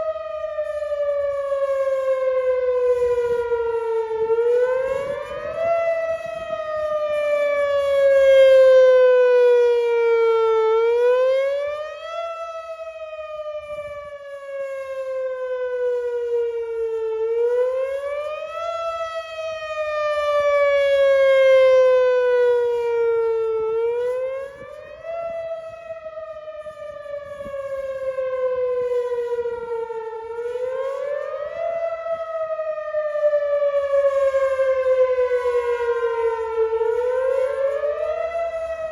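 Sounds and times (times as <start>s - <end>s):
warning siren rising and falling: 0.0s - 38.9s.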